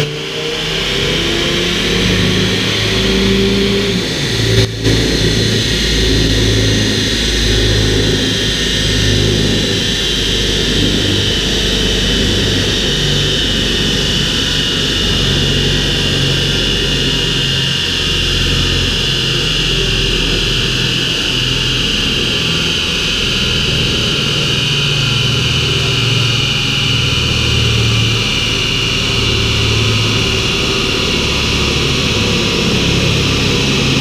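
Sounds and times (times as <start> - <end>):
diesel engine at high revs: 0.0 - 34.0
steady high whine: 0.0 - 34.0.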